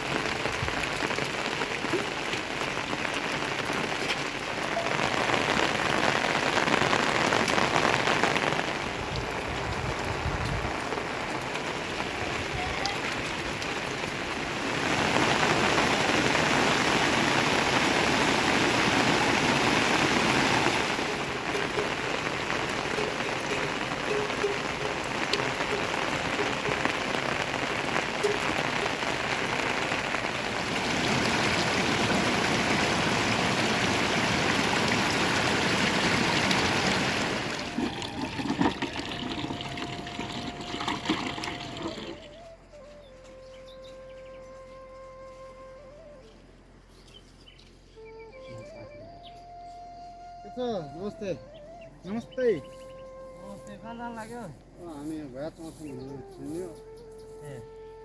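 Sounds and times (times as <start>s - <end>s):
rain falling: 0.0s - 46.9s, 48.0s - 58.0s.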